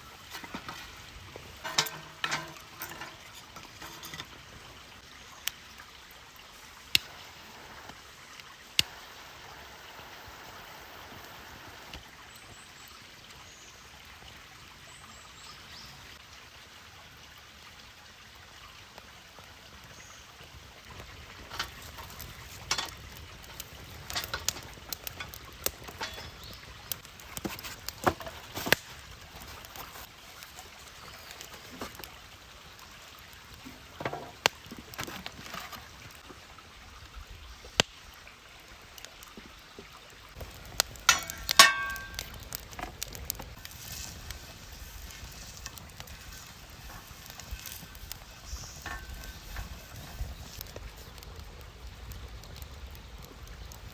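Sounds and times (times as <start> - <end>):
steak sizzling over campfire: 0.0 - 53.9.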